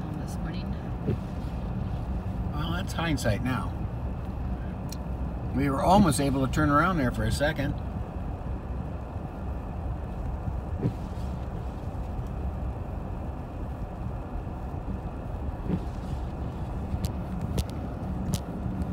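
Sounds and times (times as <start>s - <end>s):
car driving on snowy road: 0.0s - 18.9s.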